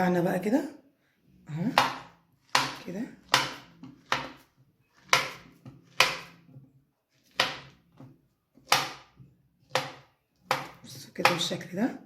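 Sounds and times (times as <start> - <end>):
knife chopping bananas: 1.5 - 11.8.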